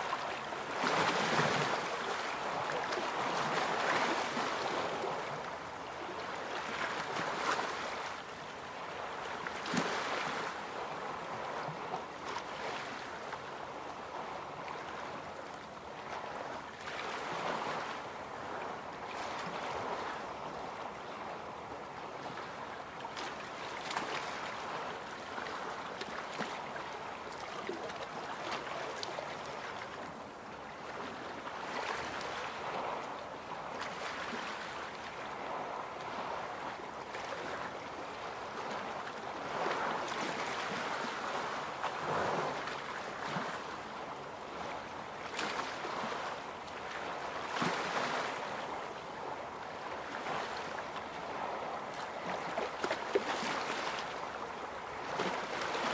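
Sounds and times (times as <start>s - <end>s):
small waves lapping on shore: 0.0s - 55.9s.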